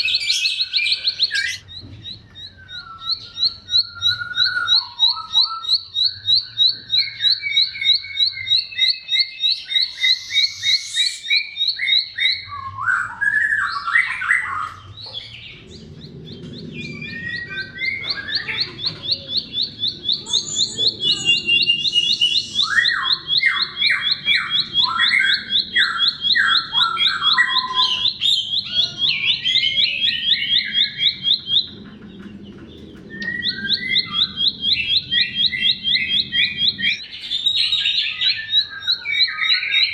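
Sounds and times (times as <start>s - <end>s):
bird high chirps: 0.0s - 39.9s
bird warbled phrases: 2.6s - 32.3s, 33.1s - 39.9s.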